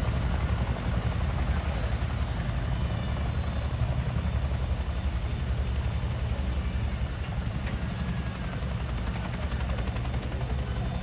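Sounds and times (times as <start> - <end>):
helicopter rotors throbbing: 0.0 - 11.0.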